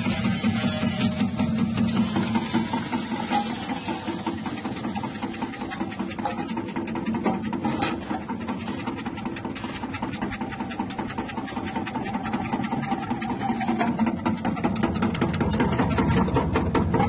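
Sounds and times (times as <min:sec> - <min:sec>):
slicing machine chattering: 0:00.0 - 0:17.0.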